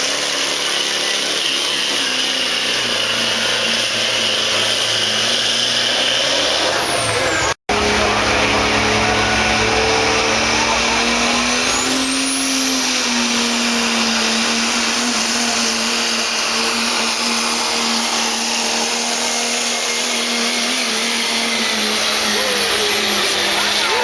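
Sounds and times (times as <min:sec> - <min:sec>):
truck engine under load: 0:00.0 - 0:24.0
turbocharger whistle: 0:00.0 - 0:24.0.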